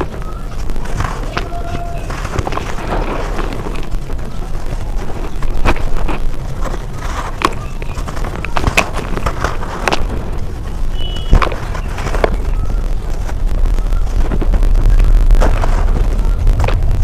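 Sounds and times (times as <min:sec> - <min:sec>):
dirt crunching and crumbling: 0:00.0 - 0:17.0.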